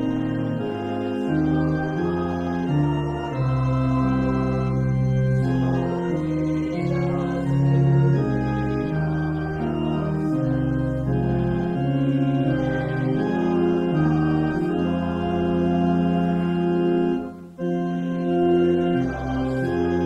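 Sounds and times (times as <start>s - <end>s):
church organ playing hymn: 0.0s - 20.0s.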